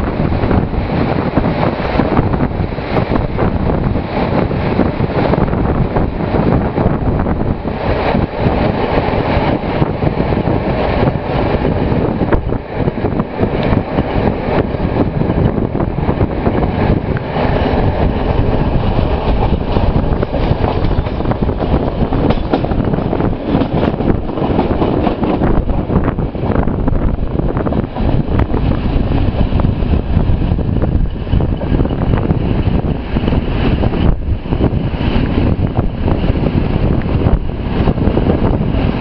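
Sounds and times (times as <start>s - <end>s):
train wheels rumbling on track: 0.0s - 39.0s
wind buffeting microphone: 0.0s - 39.0s.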